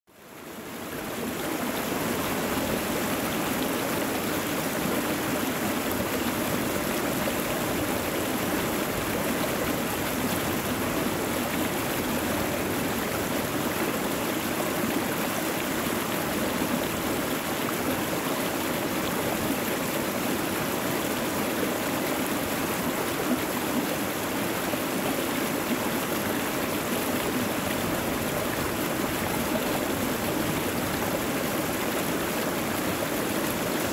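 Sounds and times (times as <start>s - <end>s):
river water pouring over weir: 0.2s - 33.9s.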